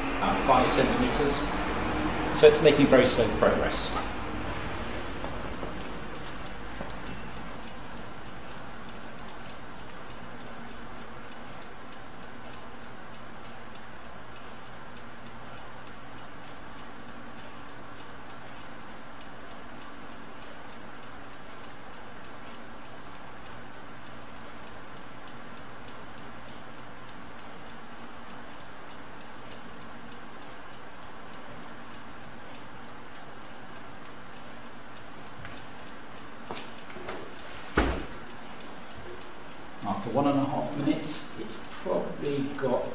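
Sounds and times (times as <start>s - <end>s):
stopclock ticking: 0.0s - 42.9s.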